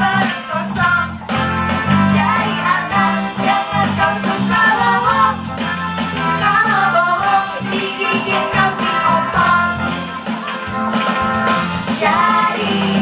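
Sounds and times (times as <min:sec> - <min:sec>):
pop band with singing over loudspeakers: 0:00.0 - 0:13.0.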